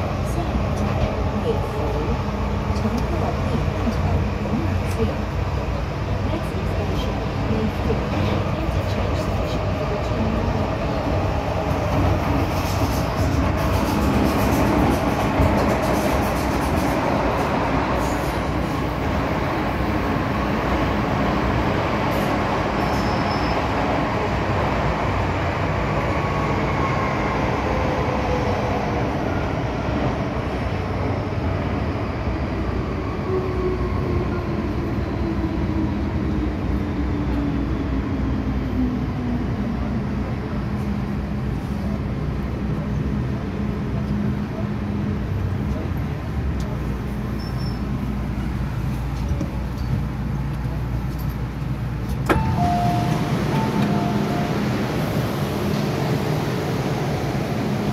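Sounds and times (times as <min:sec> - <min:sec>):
train wheels rumbling: 0:00.0 - 0:31.8, 0:32.6 - 0:57.9.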